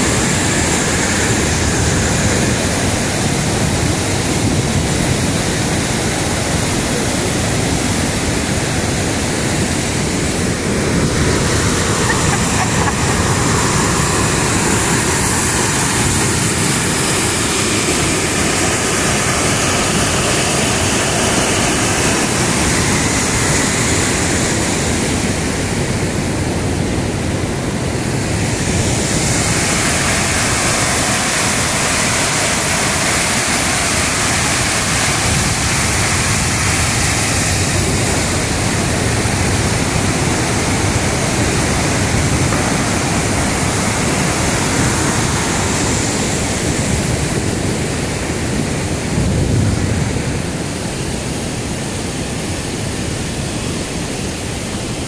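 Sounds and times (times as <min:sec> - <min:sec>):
rushing white water: 0:00.0 - 0:55.0.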